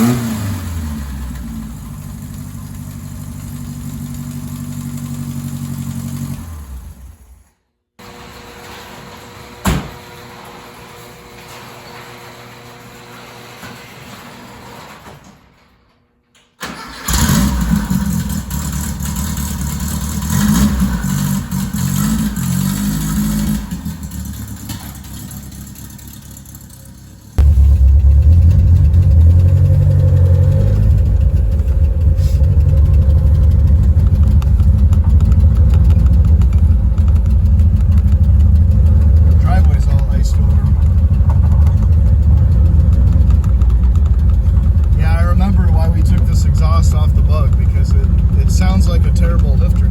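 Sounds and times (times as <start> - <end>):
car engine starting and running: 0.0 - 13.8, 16.6 - 49.9.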